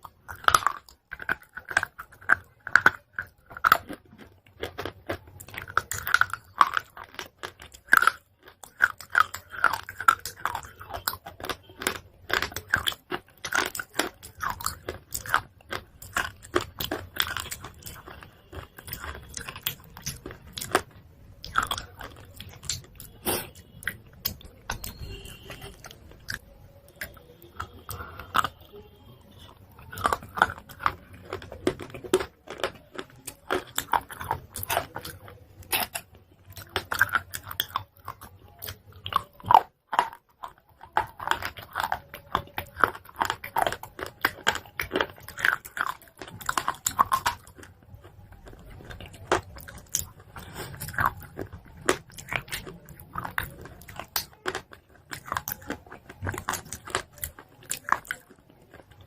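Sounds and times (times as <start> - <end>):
chewing crunchy chalk: 0.0 - 59.0
soft mouth sounds: 0.0 - 59.0.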